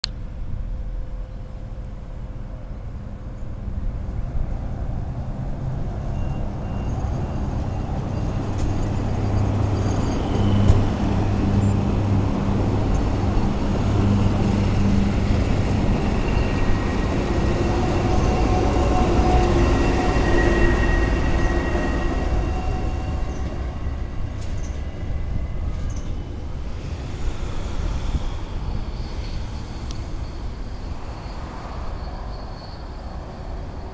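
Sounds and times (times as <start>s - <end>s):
diesel locomotive engine drone: 0.0s - 33.9s
high squealing from train: 5.5s - 33.9s.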